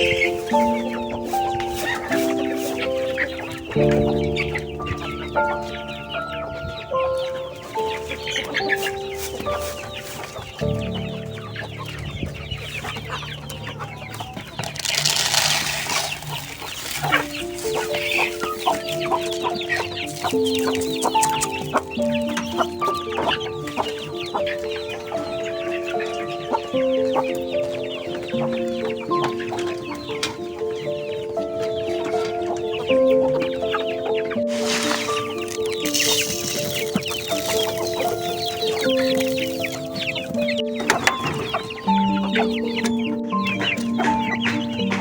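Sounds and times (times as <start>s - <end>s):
chickens clucking: 0.0s - 45.0s
simple melody music: 0.0s - 45.0s.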